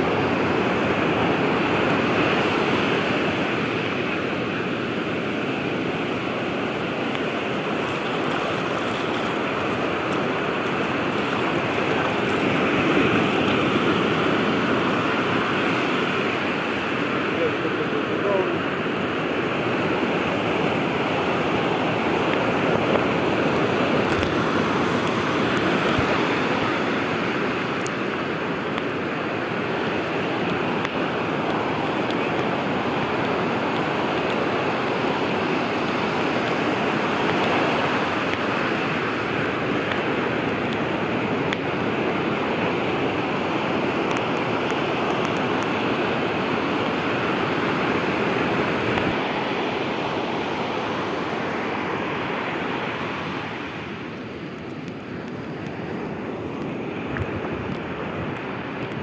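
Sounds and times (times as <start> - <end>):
surf breaking on sand: 0.0 - 59.0.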